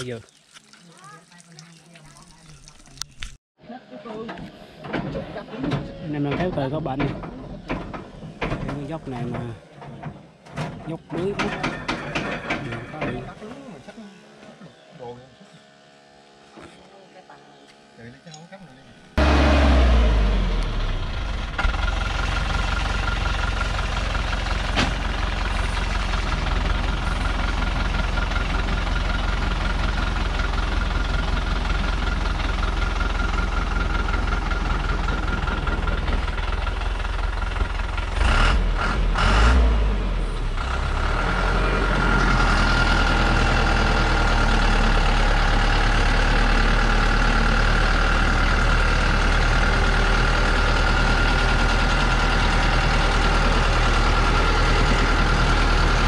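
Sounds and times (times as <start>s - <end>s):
diesel truck engine under load: 4.8s - 13.3s, 19.2s - 56.0s.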